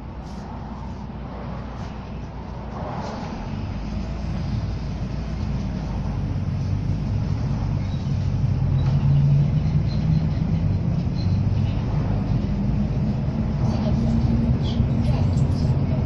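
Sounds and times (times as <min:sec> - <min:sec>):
bus diesel engine drone: 0:00.0 - 0:16.0.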